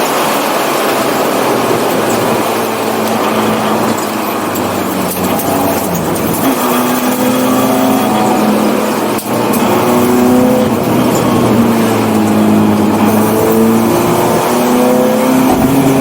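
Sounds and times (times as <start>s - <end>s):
car engine running hard: 0.0s - 16.0s
tyre noise: 0.0s - 16.0s
wind noise: 0.0s - 16.0s.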